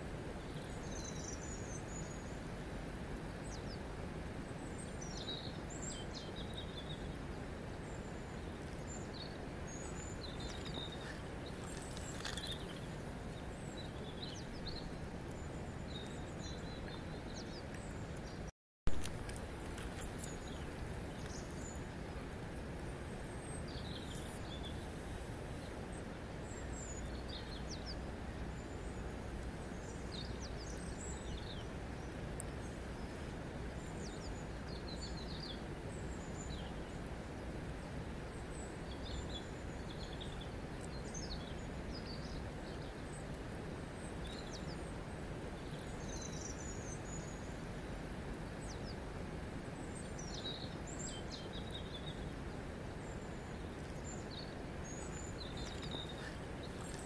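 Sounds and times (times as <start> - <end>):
river water flowing over stones: 0.0 - 57.0.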